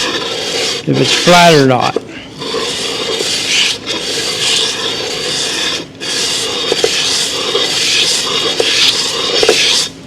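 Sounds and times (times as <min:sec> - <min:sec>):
metal rubbed on sandpaper: 0:00.0 - 0:10.0.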